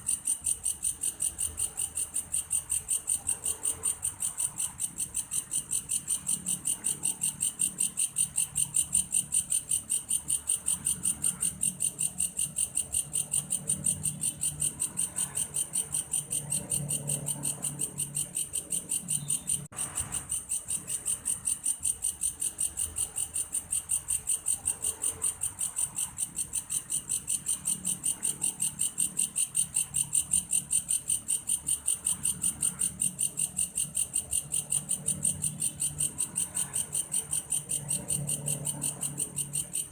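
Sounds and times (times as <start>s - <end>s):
grasshopper chirring: 0.0s - 39.9s.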